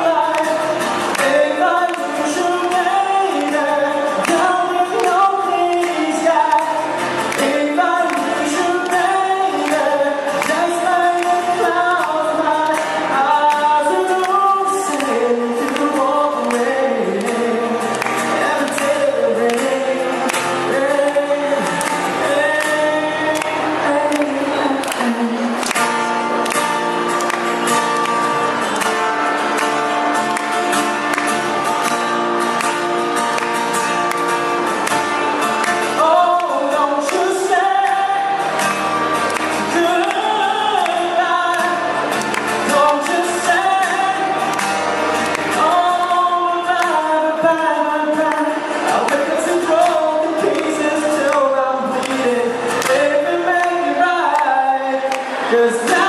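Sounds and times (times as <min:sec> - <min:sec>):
person singing melody: 0:00.0 - 0:56.0.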